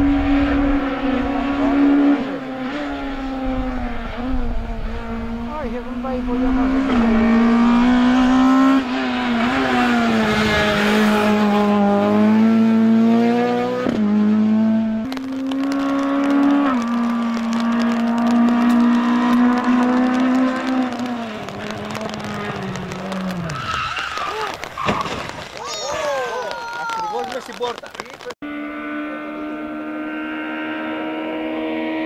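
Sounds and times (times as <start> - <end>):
rally car engine revving hard: 0.0 - 23.4, 28.4 - 32.0.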